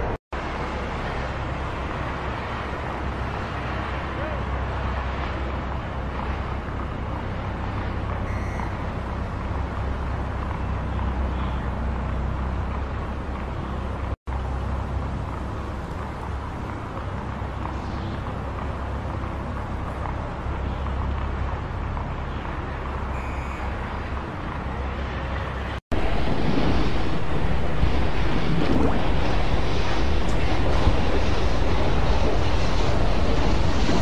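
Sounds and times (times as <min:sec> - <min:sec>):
city traffic ambience: 0:00.0 - 0:34.0
rushing water: 0:00.0 - 0:34.0
wind: 0:00.0 - 0:34.0.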